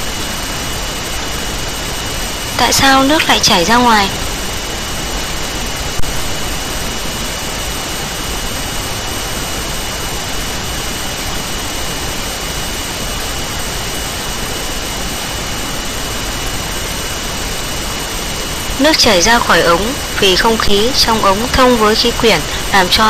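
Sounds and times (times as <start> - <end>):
high-pitched whine: 0.0 - 23.0
recording hiss: 0.0 - 23.0.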